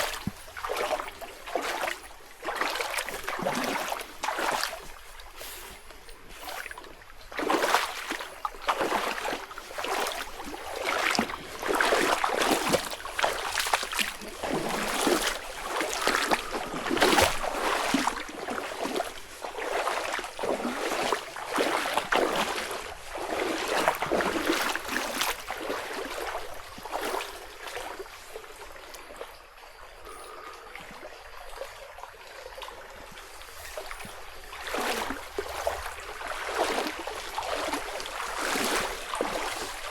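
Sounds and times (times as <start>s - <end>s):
footsteps crunching on forest path: 0.0s - 29.4s, 33.2s - 39.9s.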